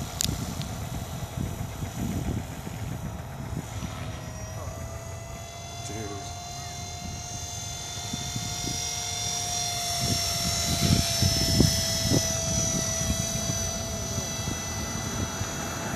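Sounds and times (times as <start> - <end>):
helicopter rotor noise: 0.0 - 15.9
rc helicopter motor whine: 0.0 - 15.9.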